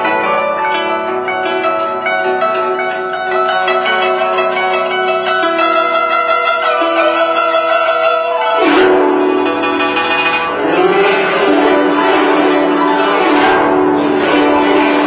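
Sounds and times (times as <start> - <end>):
sweep across zither strings: 0.0 - 15.0
zither plucked notes: 0.0 - 15.0.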